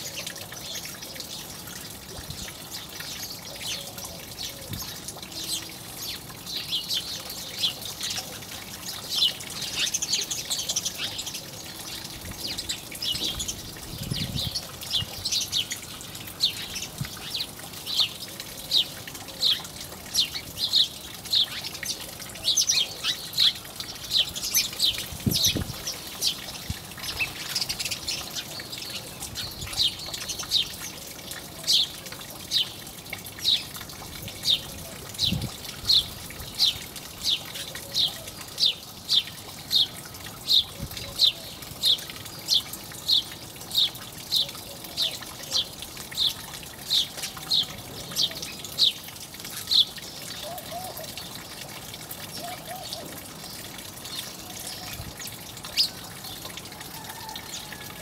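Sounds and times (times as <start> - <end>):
sparrows chirping: 0.0 - 33.8, 34.4 - 56.6
trickle of water: 0.0 - 58.0.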